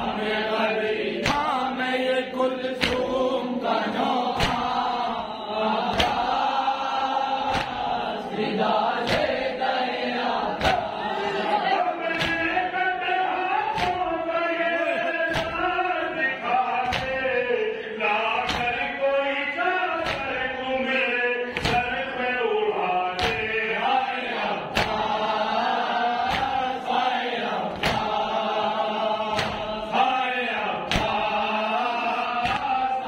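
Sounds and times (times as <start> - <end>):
male voices chanting lament: 0.0 - 33.0.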